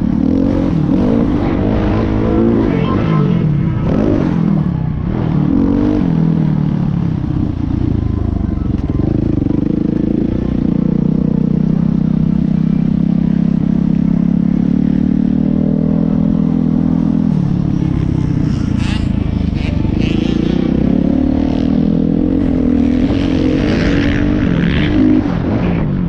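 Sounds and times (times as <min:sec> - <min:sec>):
motocross bike engine revving: 0:00.0 - 0:06.5, 0:08.9 - 0:25.6.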